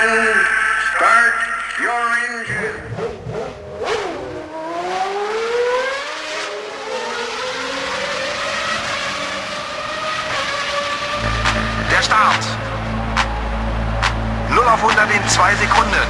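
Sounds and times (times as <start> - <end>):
vehicle engine accelerating: 2.6 - 16.0.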